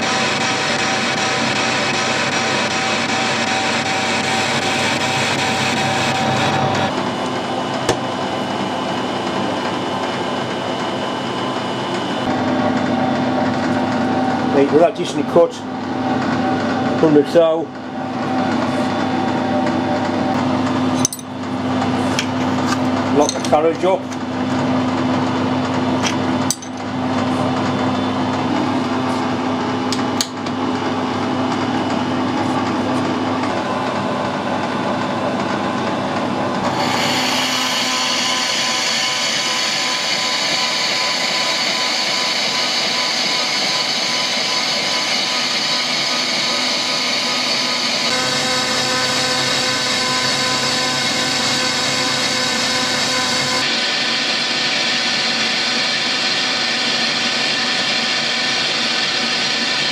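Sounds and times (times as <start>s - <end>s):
metal lathe running: 0.0s - 59.9s.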